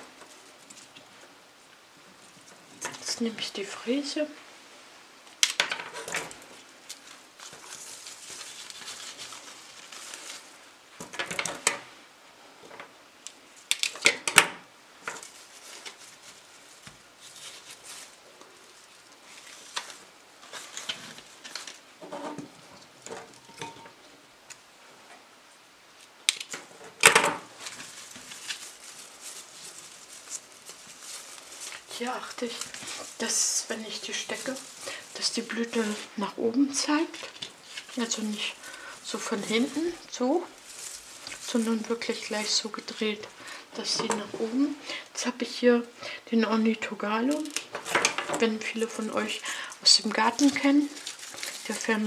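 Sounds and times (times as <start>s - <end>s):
flower stems rustling: 0.0s - 12.0s, 12.6s - 24.8s, 25.9s - 52.0s.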